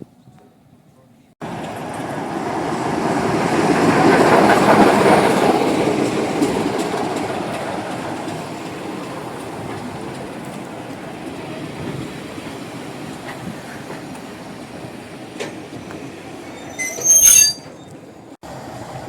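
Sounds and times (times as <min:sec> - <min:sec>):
diesel train passing: 0:01.4 - 0:19.0.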